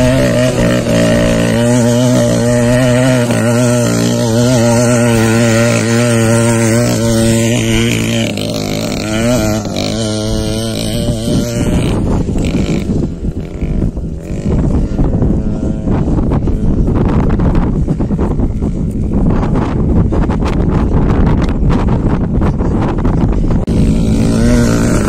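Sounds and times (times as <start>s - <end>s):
small two-stroke engine revving: 0.0s - 20.4s, 23.6s - 25.0s
wind buffeting microphone: 0.0s - 25.0s.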